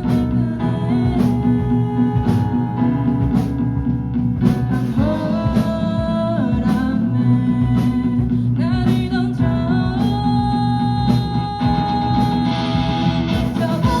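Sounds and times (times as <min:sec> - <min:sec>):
person singing: 0:00.0 - 0:03.6, 0:04.7 - 0:14.0
bass: 0:00.0 - 0:14.0
drum beat: 0:00.0 - 0:14.0
guitar: 0:00.0 - 0:14.0
keyboard: 0:00.0 - 0:14.0.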